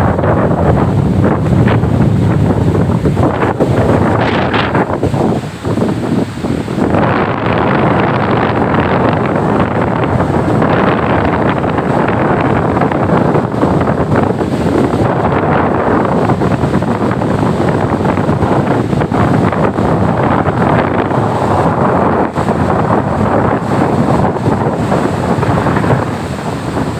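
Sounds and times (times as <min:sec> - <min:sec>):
breaking surf: 0:00.0 - 0:26.9
strong wind on microphone: 0:00.0 - 0:26.9.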